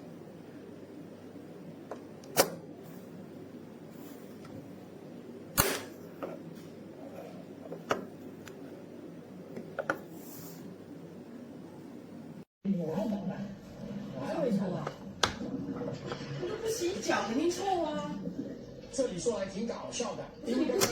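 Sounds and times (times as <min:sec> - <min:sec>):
steady low background noise: 0:00.0 - 0:20.9.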